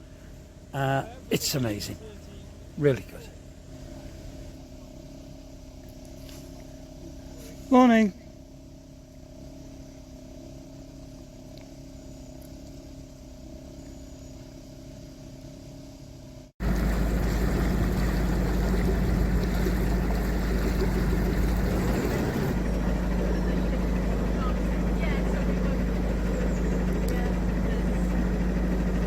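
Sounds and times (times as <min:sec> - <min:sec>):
diesel boat engine running: 0:00.0 - 0:29.0.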